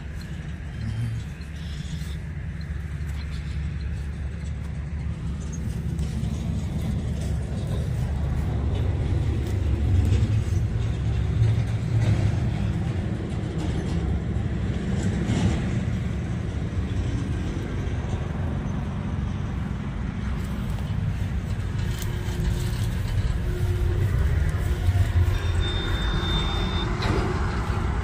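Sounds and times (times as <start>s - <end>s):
highway traffic rumble: 0.0s - 28.0s.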